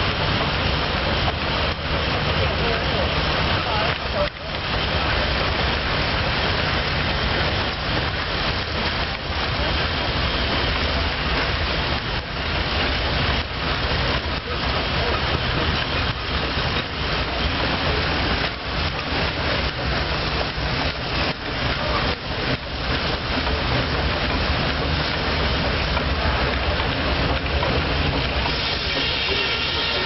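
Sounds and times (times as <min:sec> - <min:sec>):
steam engine rumbling: 0:00.0 - 0:30.0
steam hissing: 0:00.0 - 0:30.0.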